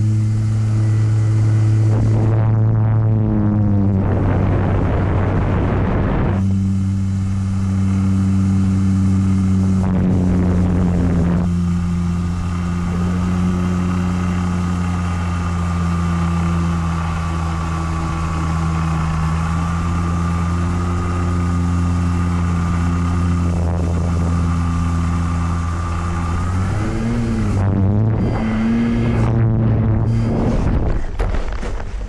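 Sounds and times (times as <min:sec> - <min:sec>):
model plane motor drone: 0:00.0 - 0:32.0
rush of wind noise: 0:00.0 - 0:32.0.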